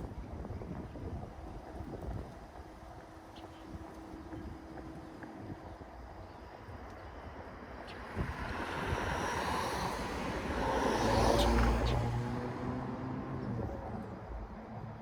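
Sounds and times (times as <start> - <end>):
low engine hum: 0.0 - 15.0
vehicle tyre and road noise: 0.0 - 15.0
wind rumble on microphone: 0.0 - 15.0.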